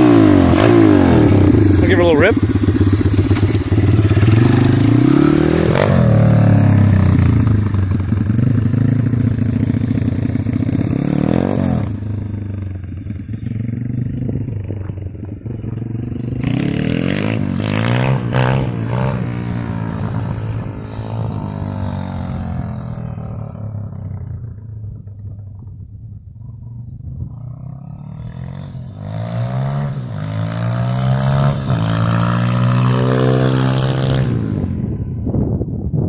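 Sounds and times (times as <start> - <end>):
pit bike engine revving: 0.0 - 35.0.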